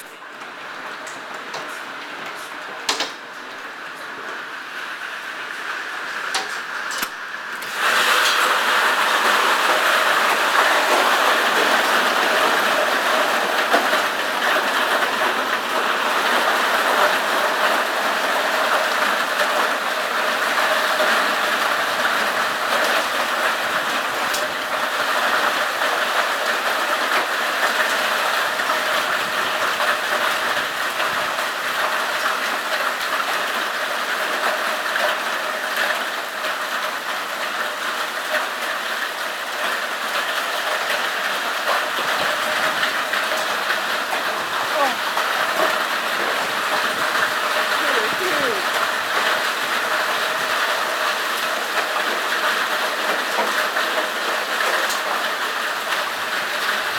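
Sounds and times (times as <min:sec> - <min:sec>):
hail and rain pounding: 0:00.0 - 0:56.9.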